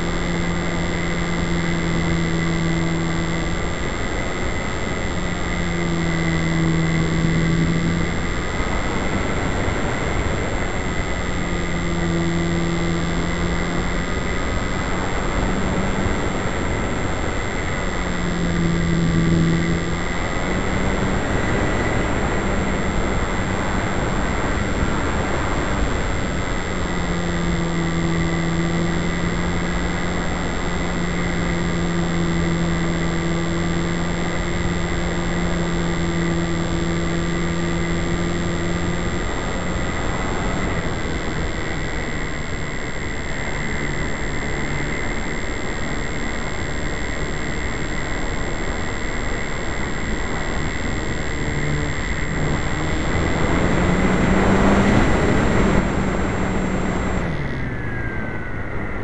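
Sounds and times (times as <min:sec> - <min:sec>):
motor and propeller hum: 0:00.0 - 0:59.0
wind rushing over microphone: 0:00.0 - 0:59.0.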